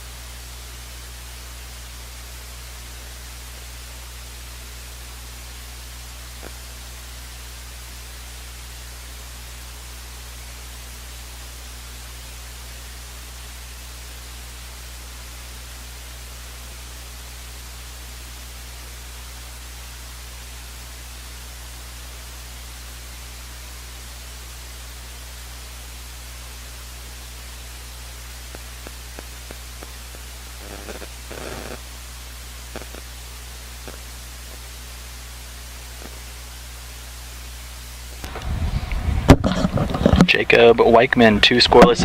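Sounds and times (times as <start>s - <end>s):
low electrical hum: 0.0s - 42.0s
steady hiss: 0.0s - 42.0s.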